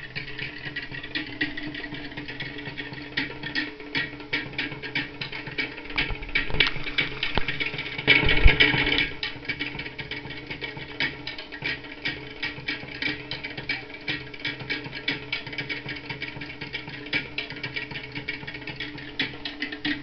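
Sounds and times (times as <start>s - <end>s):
music with percussive beat: 0.0s - 20.0s.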